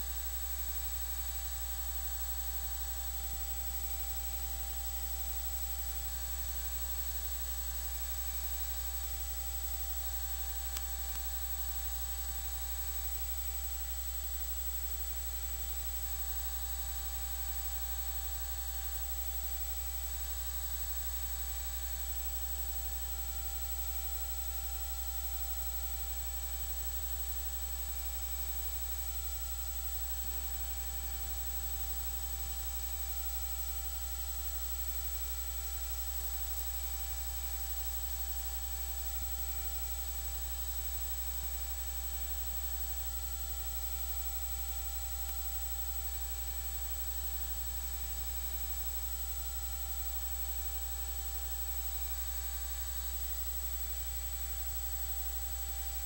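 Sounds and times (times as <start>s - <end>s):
electrical hum with hiss: 0.0s - 56.0s.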